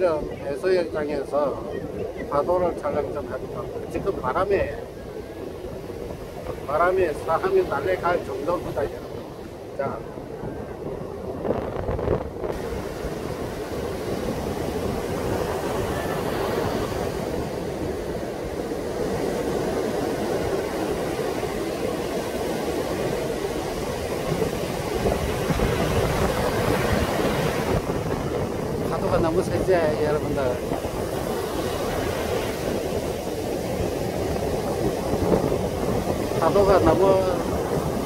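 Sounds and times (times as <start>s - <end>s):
surf breaking on beach: 0.0s - 38.0s
wind buffeting microphone: 0.0s - 38.0s.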